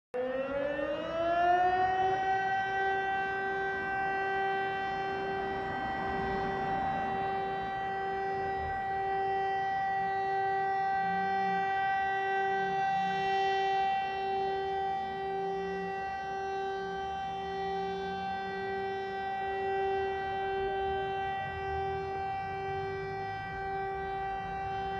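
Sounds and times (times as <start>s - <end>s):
siren winding up to steady tone: 0.2s - 24.9s.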